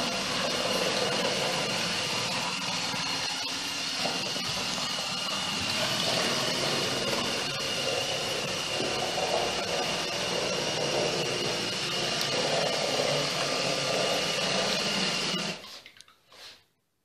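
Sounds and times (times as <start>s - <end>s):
toy robot motors whirring: 0.0s - 15.6s.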